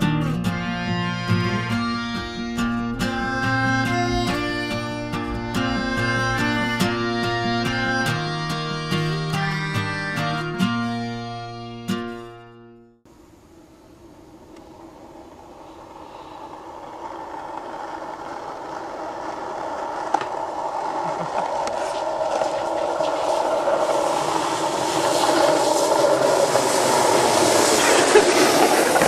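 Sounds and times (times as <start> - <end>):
skateboard wheels rolling on asphalt: 0.0 - 12.4, 13.1 - 29.0.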